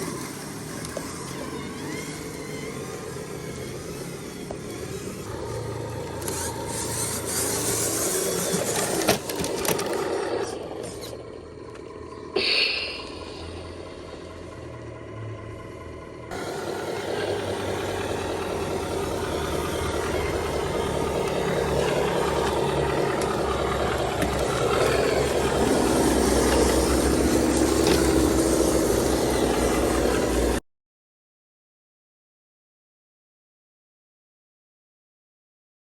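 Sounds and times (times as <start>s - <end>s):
diesel truck engine running: 0.0s - 30.6s.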